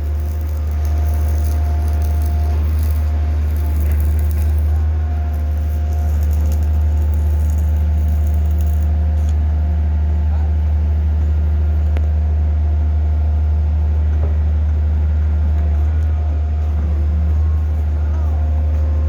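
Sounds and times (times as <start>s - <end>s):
diesel power unit droning: 0.0s - 19.0s.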